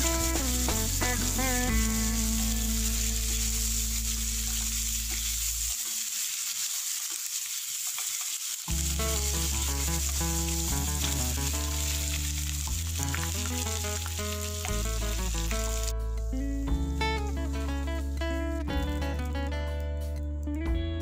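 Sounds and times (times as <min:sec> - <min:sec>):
background music with bass: 0:00.0 - 0:05.7, 0:08.7 - 0:21.0
oil sizzling in a pan: 0:00.0 - 0:17.8.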